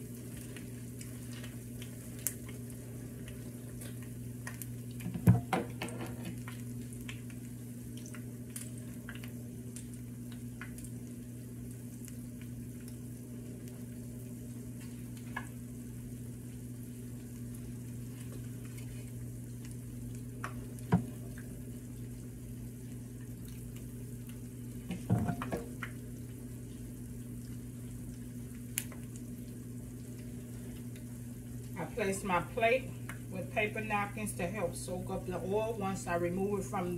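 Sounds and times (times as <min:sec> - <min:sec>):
batter sizzling in oil: 0:00.0 - 0:36.9.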